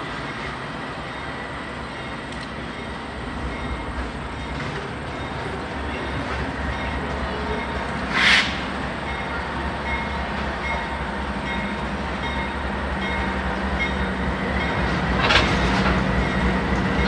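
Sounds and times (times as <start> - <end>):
locomotive engine rumble: 0.0 - 17.0
wheels on rail: 0.0 - 17.0.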